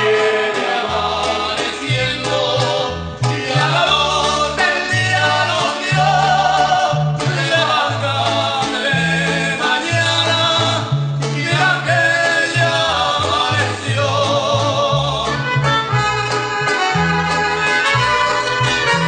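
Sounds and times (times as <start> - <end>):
person singing: 0.0 - 17.8
bass line: 0.0 - 19.0
mariachi band playing: 0.0 - 19.0.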